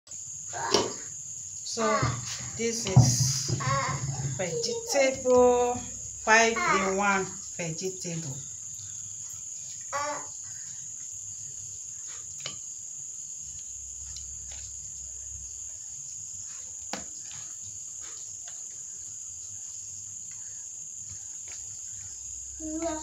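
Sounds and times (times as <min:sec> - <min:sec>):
crickets chirring: 0:00.1 - 0:23.0.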